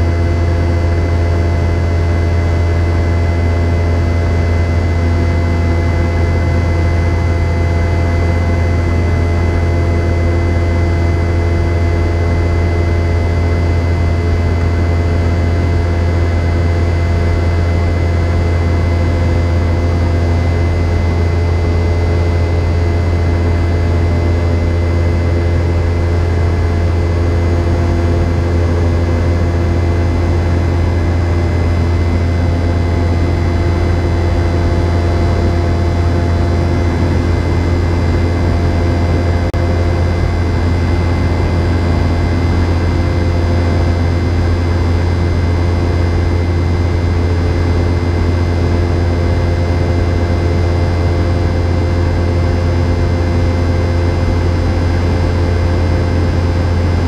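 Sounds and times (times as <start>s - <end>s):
jet engines droning in flight: 0.0s - 57.0s.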